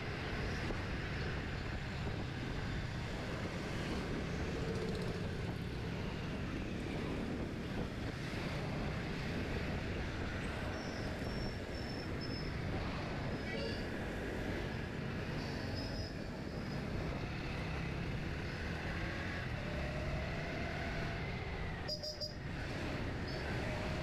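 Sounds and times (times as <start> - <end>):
wind noise on microphone: 0.0 - 20.0
surrounding traffic: 0.0 - 24.0.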